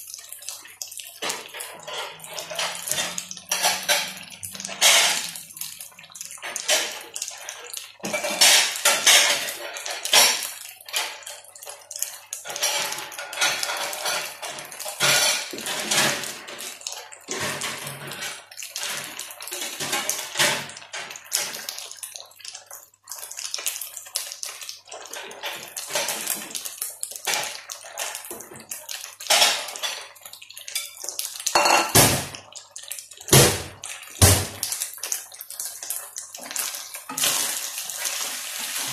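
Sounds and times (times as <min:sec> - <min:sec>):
pots and dishes clattering: 0:01.0 - 0:11.7, 0:12.3 - 0:21.9, 0:25.0 - 0:34.8, 0:35.8 - 0:38.9.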